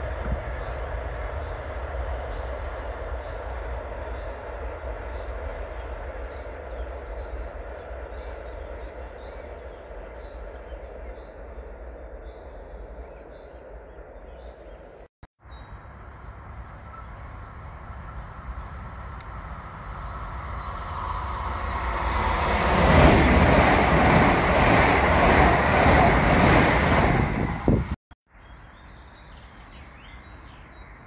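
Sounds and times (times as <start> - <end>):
freight train rolling past: 0.0 - 14.6, 15.9 - 28.0.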